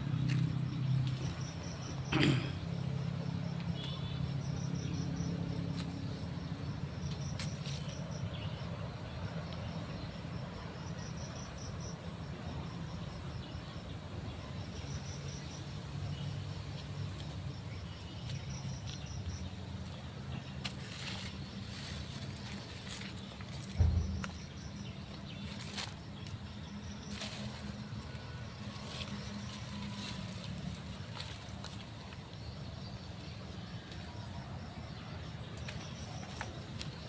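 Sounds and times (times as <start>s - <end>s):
insects chirping: 0.0s - 37.0s.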